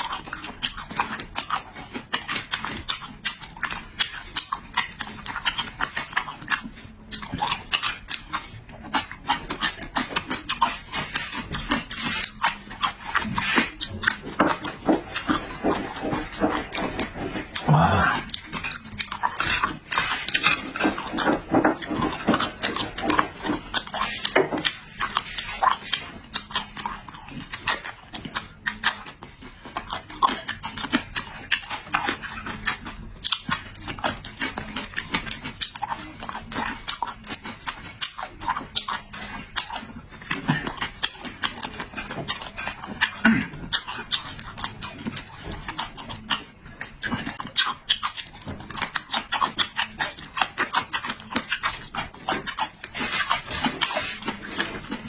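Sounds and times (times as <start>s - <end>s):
wet chewing and lip smacking: 0.0s - 55.0s.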